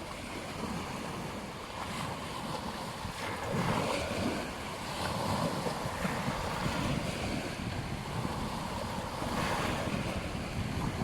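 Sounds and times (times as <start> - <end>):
waves breaking on beach: 0.0 - 11.0
wind on microphone: 0.0 - 11.0.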